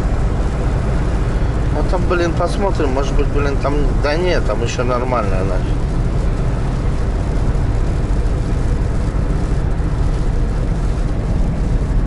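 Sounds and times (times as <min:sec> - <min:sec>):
van engine and road noise: 0:00.0 - 0:12.0.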